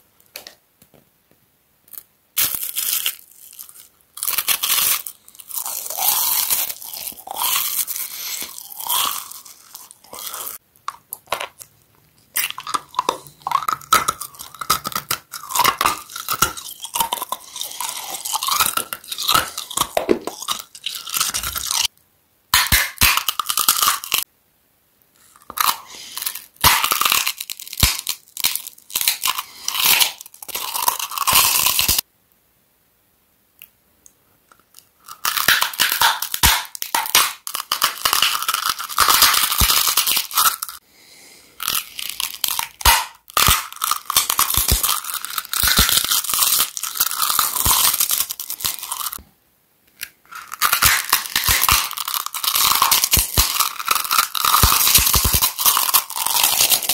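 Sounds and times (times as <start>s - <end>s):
crunching and chewing crisp food: 1.9s - 21.9s, 22.6s - 24.3s, 25.2s - 32.1s, 34.5s - 49.2s, 49.9s - 56.9s.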